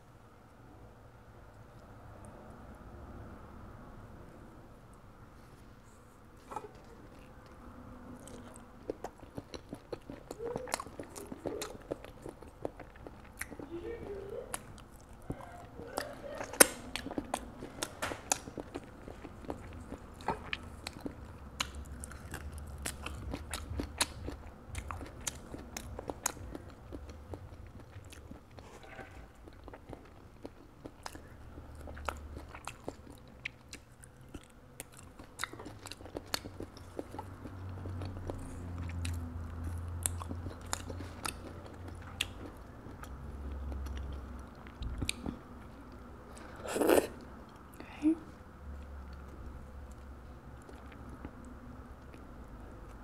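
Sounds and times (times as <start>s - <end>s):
wet chewing sounds: 5.8s - 47.8s, 48.6s - 53.0s.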